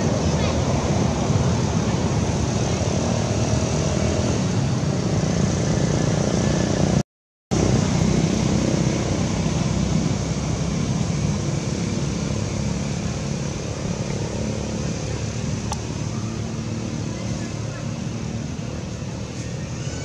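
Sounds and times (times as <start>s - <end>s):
steady low rumbling: 0.0s - 20.0s.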